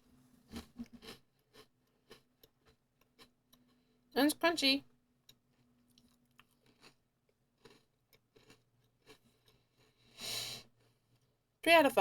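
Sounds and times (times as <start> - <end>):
chewing crunchy cookie: 0.5 - 4.1, 5.2 - 11.4.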